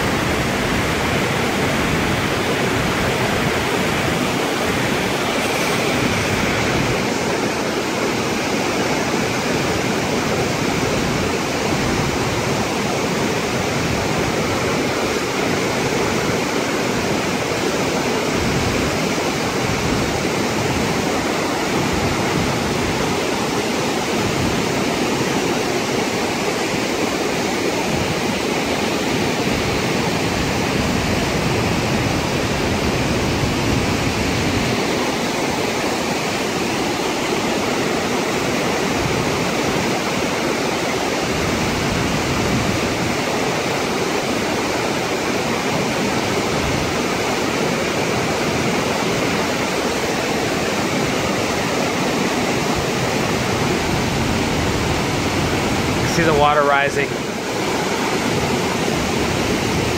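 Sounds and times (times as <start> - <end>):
waterfall rushing water: 0.0 - 59.9.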